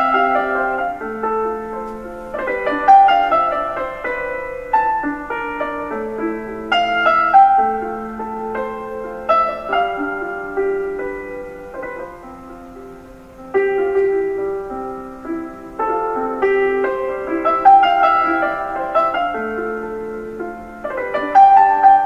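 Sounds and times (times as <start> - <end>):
gentle solo piano melody: 0.0 - 22.0.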